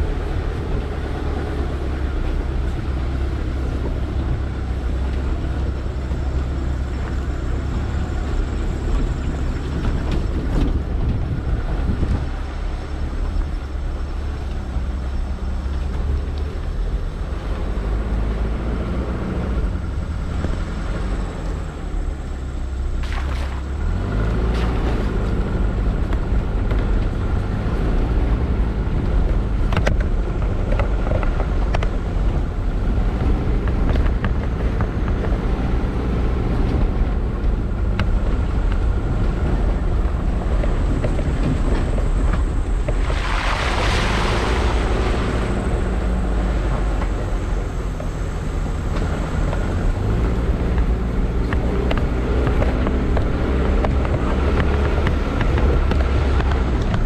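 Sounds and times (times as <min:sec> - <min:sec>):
rumbling road noise: 0:00.0 - 0:57.0
vehicle engine running: 0:00.0 - 0:57.0.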